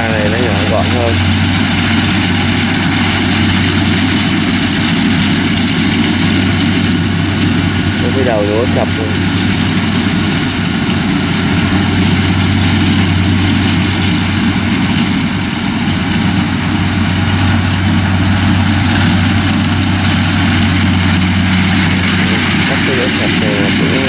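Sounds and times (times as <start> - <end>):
combine harvester diesel drone: 0.0 - 24.0
machinery rushing noise: 0.0 - 24.0.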